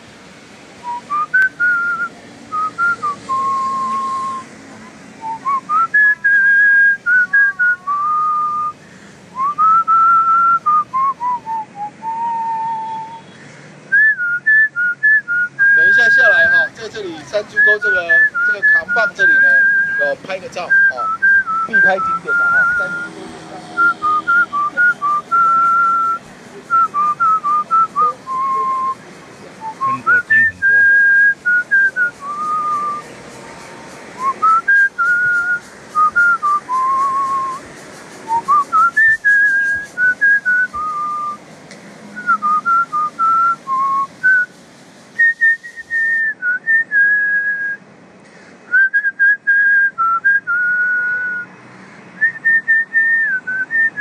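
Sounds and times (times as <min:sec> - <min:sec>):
person whistling a tune: 0:00.8 - 0:04.5, 0:05.2 - 0:08.8, 0:09.4 - 0:13.3, 0:13.9 - 0:23.2, 0:23.8 - 0:29.0, 0:29.6 - 0:33.1, 0:34.2 - 0:41.4, 0:42.2 - 0:44.6, 0:45.2 - 0:47.8, 0:48.7 - 0:51.5, 0:52.2 - 0:54.0.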